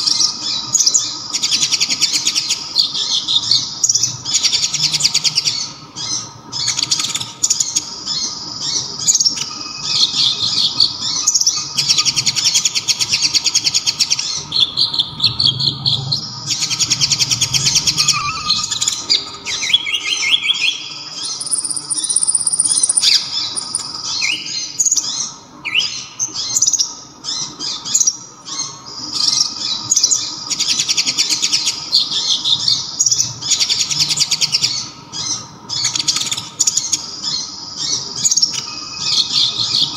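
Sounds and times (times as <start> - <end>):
sunbird singing trills and chirps: 0.0 - 39.9.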